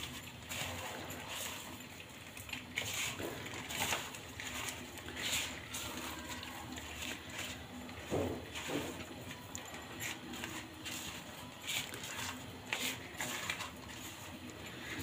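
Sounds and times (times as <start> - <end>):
fried onions crackling and crunching: 0.0 - 15.0
paper rustling: 0.0 - 15.0.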